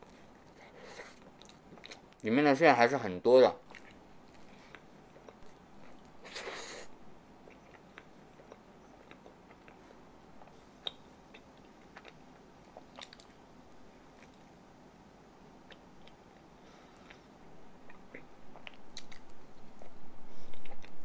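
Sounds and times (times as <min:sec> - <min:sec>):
chewing soft bread: 0:00.0 - 0:02.3, 0:03.6 - 0:06.6, 0:07.4 - 0:14.6, 0:15.6 - 0:21.0.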